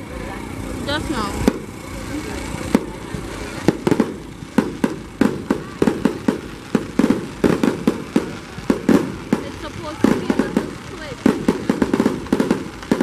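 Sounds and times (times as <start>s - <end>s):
fireworks bursting with sharp bangs: 0.0s - 13.0s.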